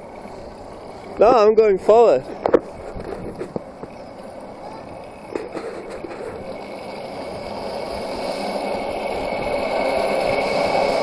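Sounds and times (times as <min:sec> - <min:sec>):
zipline trolley whirring on cable: 0:00.0 - 0:11.0.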